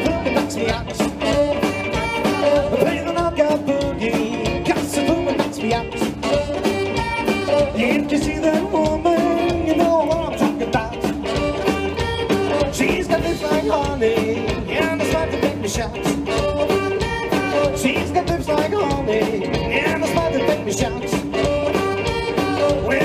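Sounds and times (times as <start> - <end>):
saxophone: 0.0 - 10.1, 10.9 - 23.0
drums: 0.0 - 23.0
electric guitars: 0.0 - 23.0
upright bass: 0.0 - 23.0.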